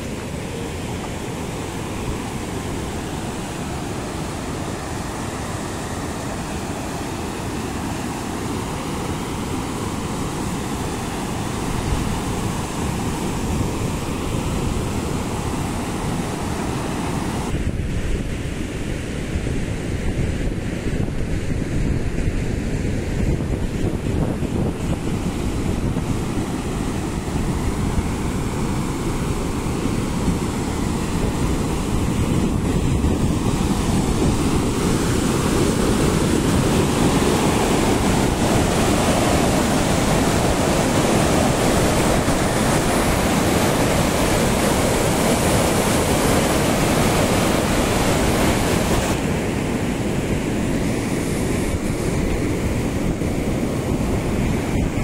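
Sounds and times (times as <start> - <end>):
river rushing through rapids: 0.0 - 17.8, 18.4 - 55.0
wind buffeting microphone: 0.0 - 55.0.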